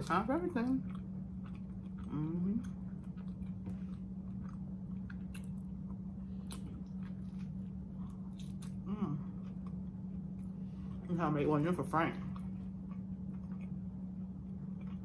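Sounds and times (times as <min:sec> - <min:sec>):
steady low hum: 0:00.0 - 0:15.0
person chewing: 0:00.8 - 0:11.1, 0:12.3 - 0:15.0.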